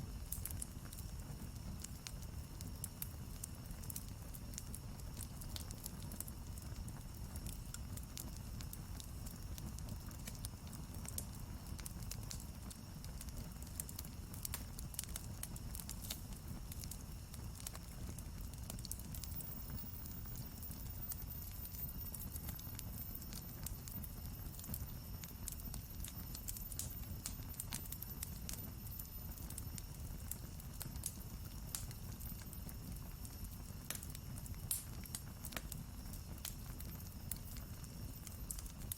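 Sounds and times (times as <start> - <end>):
low rush of flames: 0.0 - 38.9
wood crackling and popping: 0.0 - 38.9.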